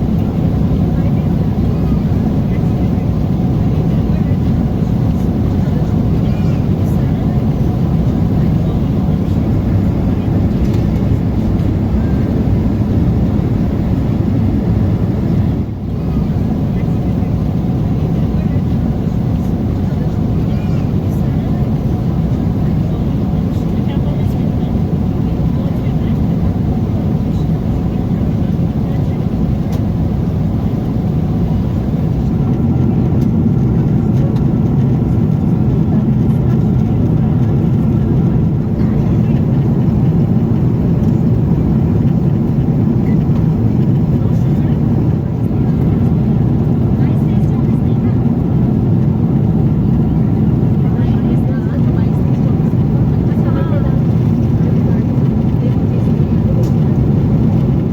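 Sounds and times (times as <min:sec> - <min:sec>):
airliner cabin engine rumble: 0:00.0 - 0:57.9.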